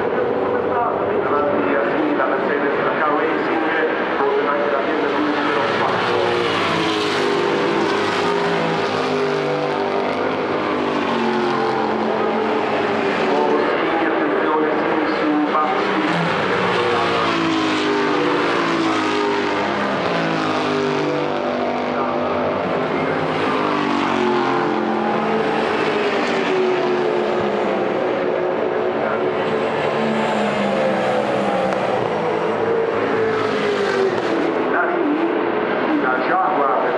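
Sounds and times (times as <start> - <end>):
race car engines revving: 0.0 - 36.9.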